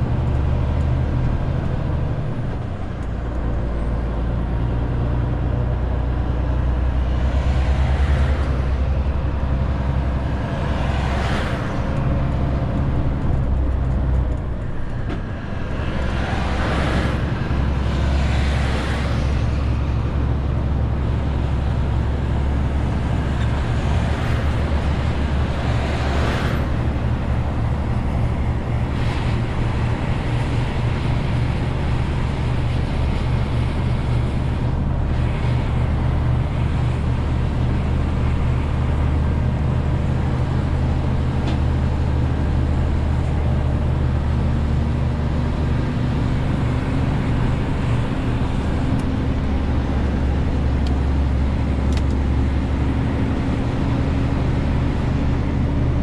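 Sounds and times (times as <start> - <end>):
road noise: 0.0 - 56.0
truck diesel engine running: 0.0 - 56.0.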